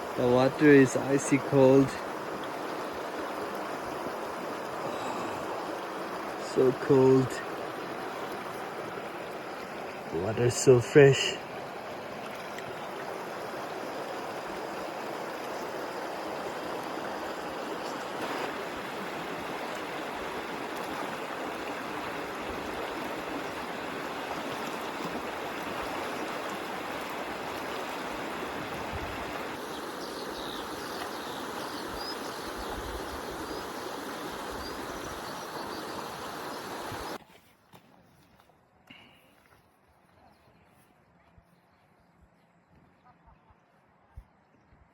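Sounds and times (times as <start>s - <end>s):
stream flowing: 0.0s - 38.5s.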